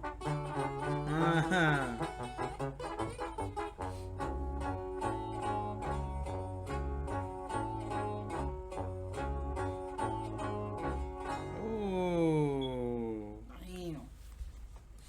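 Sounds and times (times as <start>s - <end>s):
plucked guitar: 0.0s - 13.2s
tuba bass line: 0.0s - 13.3s.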